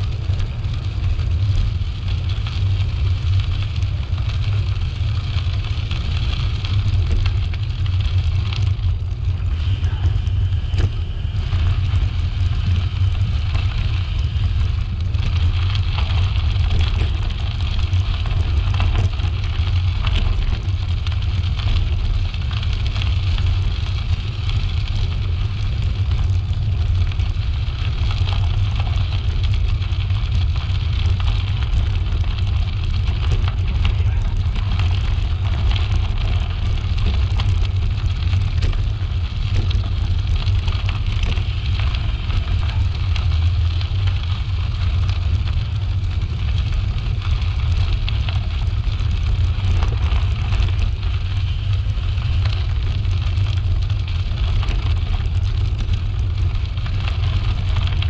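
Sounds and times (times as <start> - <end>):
wind rumble over microphone: 0.0 - 58.0.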